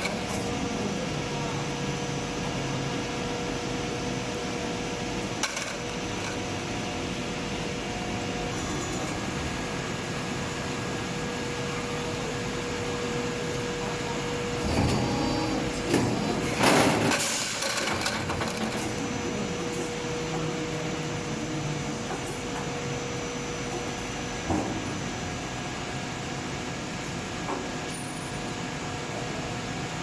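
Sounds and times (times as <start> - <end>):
injection moulding machine humming: 0.0 - 27.9.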